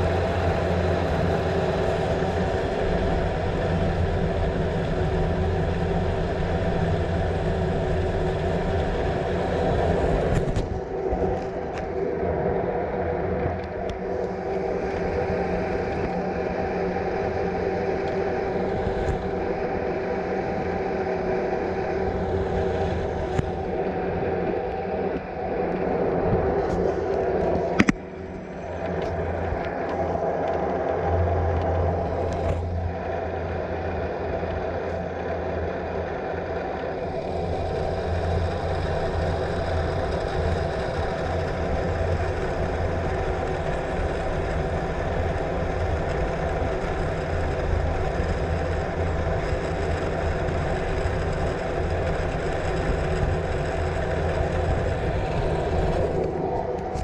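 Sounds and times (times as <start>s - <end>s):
cable car rumble and hum: 0.0s - 57.0s
wind noise: 0.0s - 57.0s.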